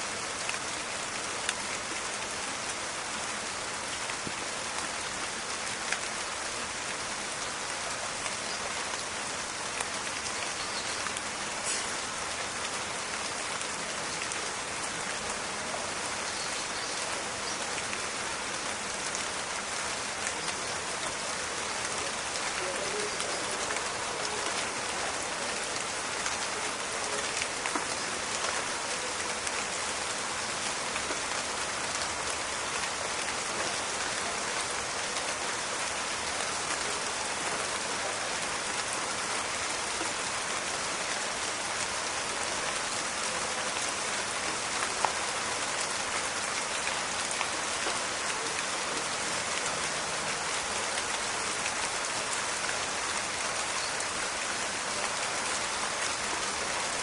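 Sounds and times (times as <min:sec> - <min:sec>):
steady rain in a forest: 0:00.0 - 0:57.0.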